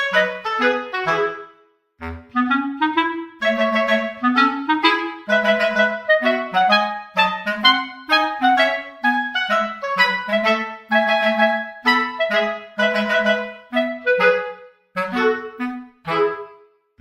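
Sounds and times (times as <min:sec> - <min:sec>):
woodwind playing bouncy melody: 0:00.0 - 0:17.0.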